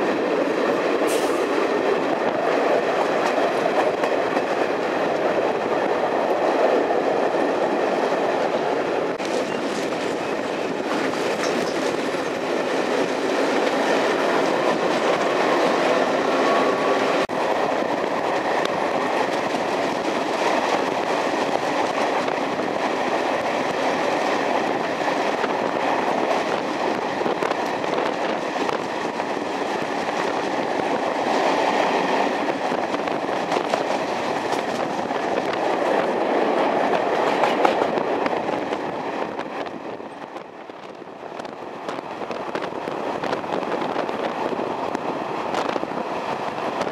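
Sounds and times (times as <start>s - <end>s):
train wheels rolling on rail: 0.0s - 46.9s.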